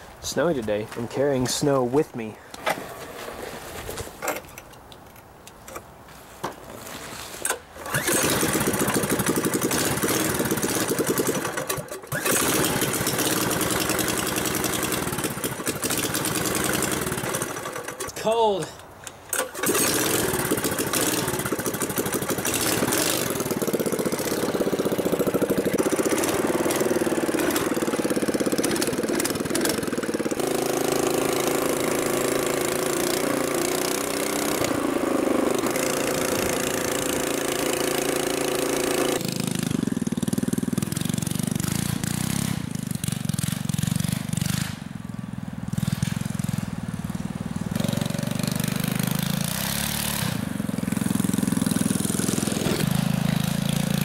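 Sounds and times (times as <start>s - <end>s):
mini bike engine revving: 7.4s - 18.2s, 19.3s - 54.0s.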